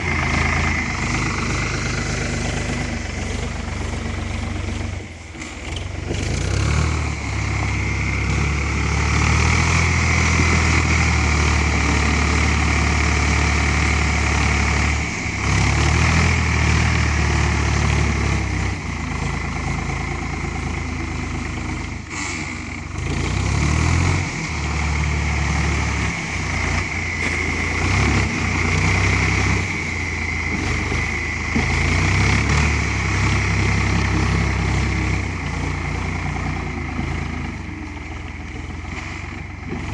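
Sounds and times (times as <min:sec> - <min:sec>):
tractor diesel engine rumbling: 0:00.0 - 0:39.9.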